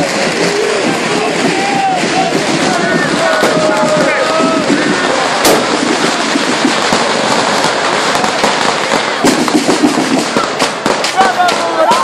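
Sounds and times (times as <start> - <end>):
firecrackers crackling: 0.0 - 12.0
sharp firecracker bang: 0.0 - 12.0.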